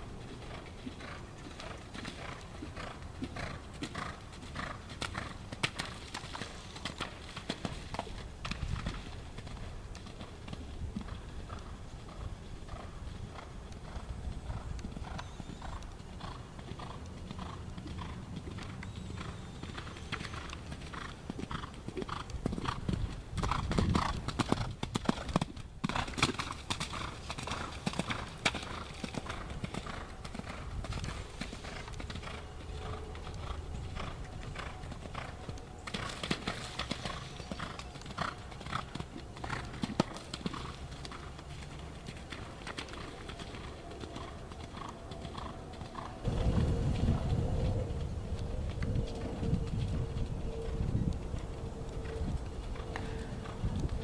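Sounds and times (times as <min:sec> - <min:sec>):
horse hoofbeats on sand: 0:00.2 - 0:54.0.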